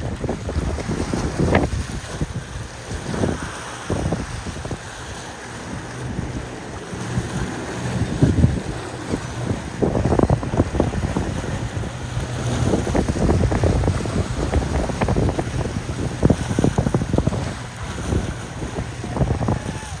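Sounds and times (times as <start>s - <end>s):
boat wake wash: 0.0s - 20.0s
motorboat engines droning: 0.0s - 20.0s
wind buffeting microphone: 0.0s - 20.0s.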